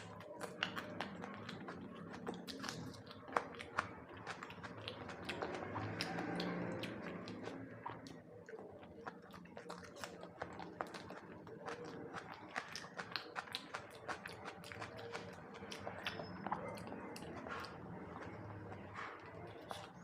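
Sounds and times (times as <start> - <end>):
chewing and crunching food: 0.0 - 20.0.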